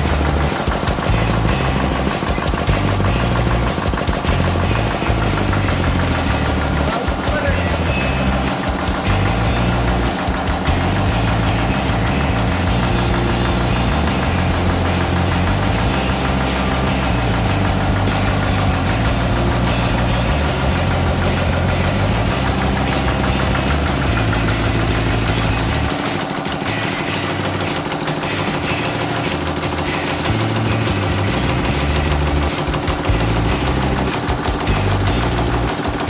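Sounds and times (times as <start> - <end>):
diesel engine knocking: 0.0 - 36.0.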